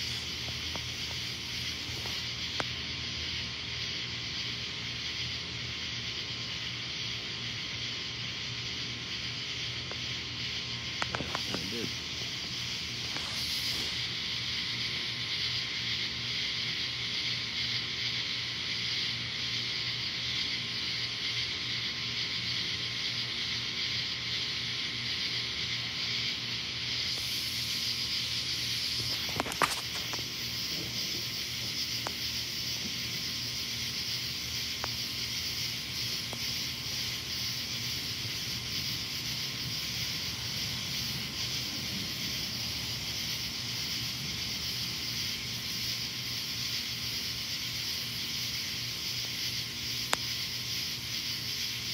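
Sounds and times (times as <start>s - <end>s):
night insects chorus: 0.0s - 51.9s.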